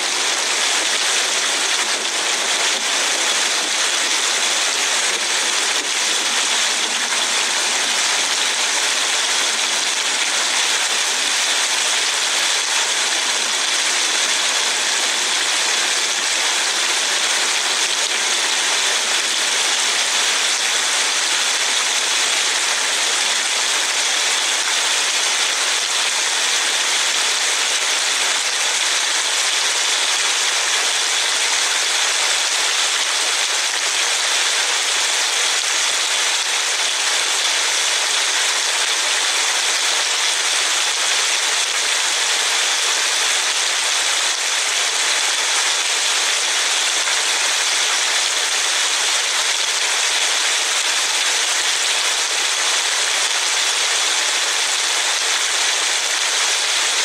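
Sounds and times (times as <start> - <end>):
heavy rain on car roof: 0.0 - 57.0.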